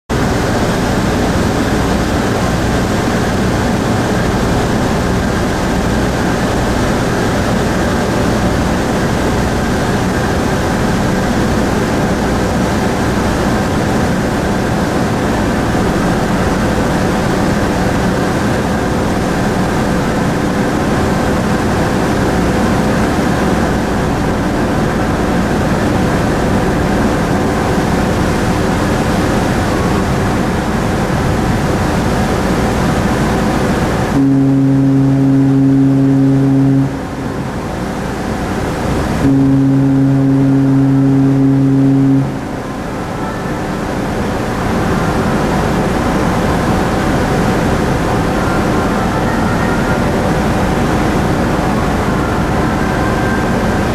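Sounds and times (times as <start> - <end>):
ship engines droning: 0.1 - 53.9.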